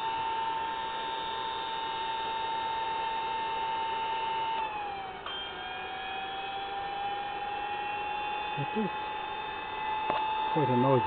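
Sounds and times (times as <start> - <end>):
cooling blowers whining: 0.0 - 11.0.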